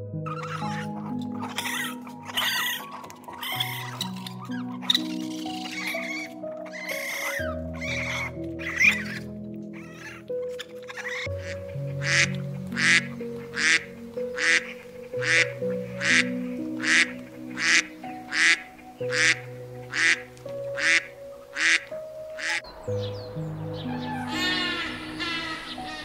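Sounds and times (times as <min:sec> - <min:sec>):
soft piano music: 0:00.0 - 0:26.0
ducks quacking: 0:00.3 - 0:26.0.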